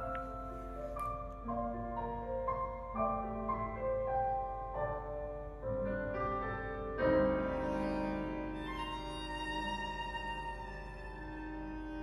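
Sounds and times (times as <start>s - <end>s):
instrumental piano music: 0.0s - 12.0s.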